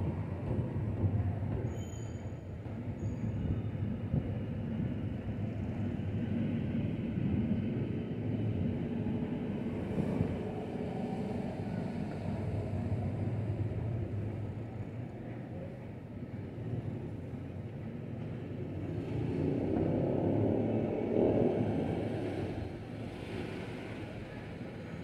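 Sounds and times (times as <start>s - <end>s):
distant city traffic rumble: 0.0s - 25.0s.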